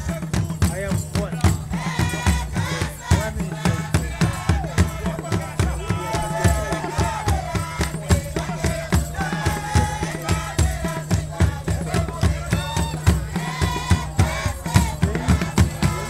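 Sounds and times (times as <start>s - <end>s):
fast drum beat: 0.0s - 16.0s
group singing: 0.0s - 16.0s.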